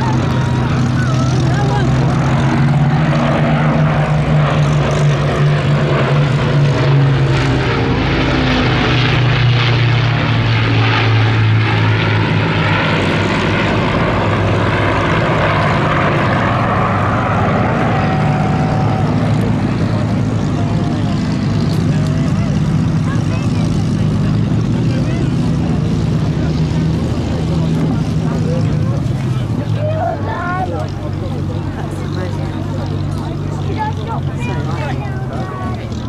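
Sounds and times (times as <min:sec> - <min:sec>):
propeller plane drone: 0:00.0 - 0:36.0.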